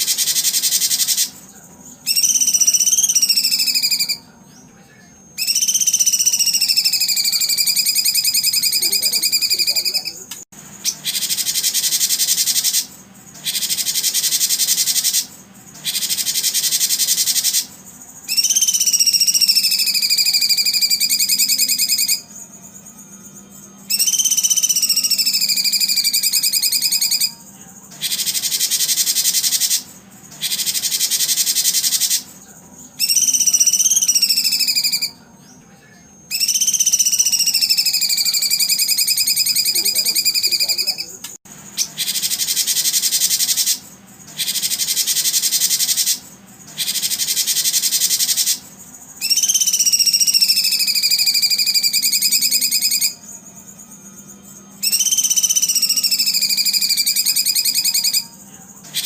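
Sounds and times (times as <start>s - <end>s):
long whistled bird notes: 0.0s - 4.3s, 5.3s - 10.2s, 10.8s - 35.2s, 36.2s - 48.6s, 49.2s - 59.0s
harsh buzzing bird trills: 0.0s - 59.0s.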